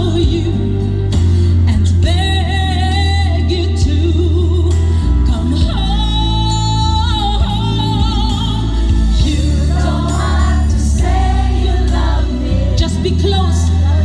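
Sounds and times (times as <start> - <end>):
live band with strong bass: 0.0 - 14.0
person singing ballad: 0.0 - 14.0.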